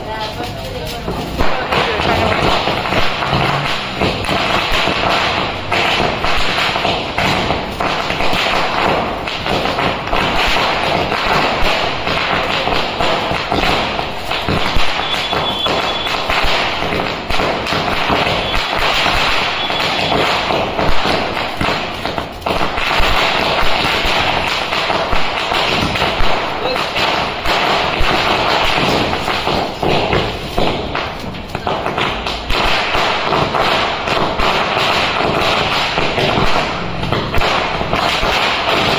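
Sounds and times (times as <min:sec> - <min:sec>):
firecrackers crackling and popping: 0:00.0 - 0:38.9
loud firecracker bangs: 0:00.0 - 0:38.9.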